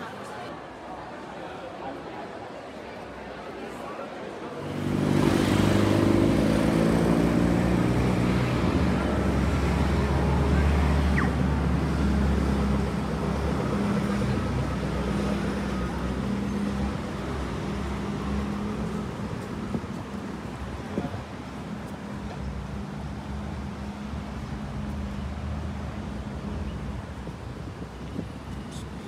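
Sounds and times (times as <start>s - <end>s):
heavy vehicle engine drone: 4.4s - 29.0s.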